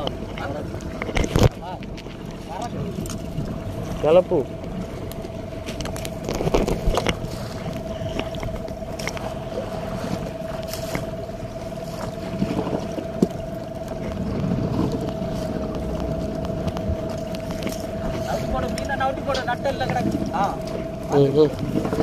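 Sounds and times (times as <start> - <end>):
boat motor humming: 0.0 - 22.0
water splashing against hull: 0.0 - 22.0.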